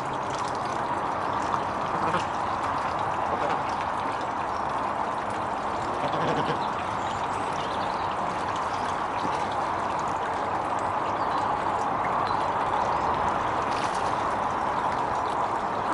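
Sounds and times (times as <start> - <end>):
pond waterfall splashing: 0.0 - 15.9.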